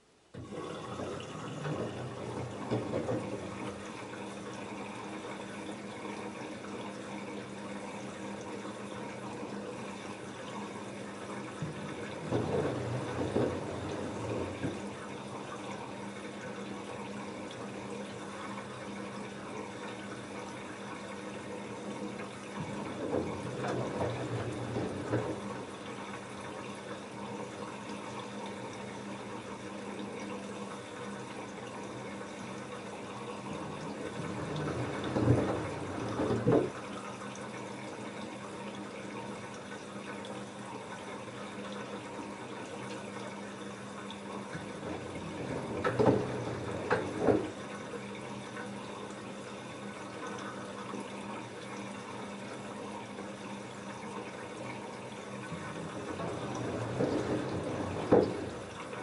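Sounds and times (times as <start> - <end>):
faint motor hum: 0.0 - 59.0
water sloshing in washing machine: 0.0 - 59.0.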